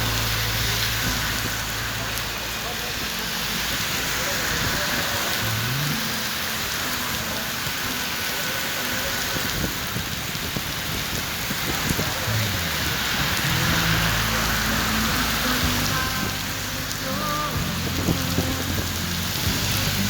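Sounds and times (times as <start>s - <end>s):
heavy rain on street: 0.0s - 20.0s
low traffic rumble: 0.0s - 20.0s.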